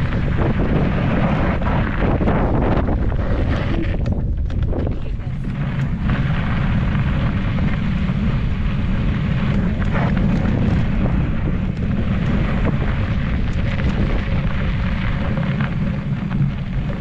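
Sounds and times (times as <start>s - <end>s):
tyre noise on dirt: 0.0s - 17.0s
wind buffeting microphone: 0.0s - 17.0s.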